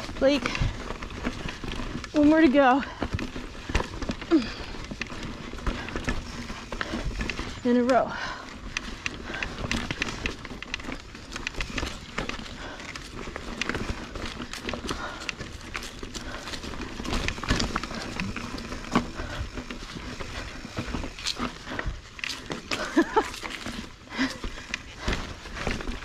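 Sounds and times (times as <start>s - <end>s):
bike clicks and rattles: 0.0s - 26.0s
bike tyres crunching on dirt: 0.0s - 26.0s.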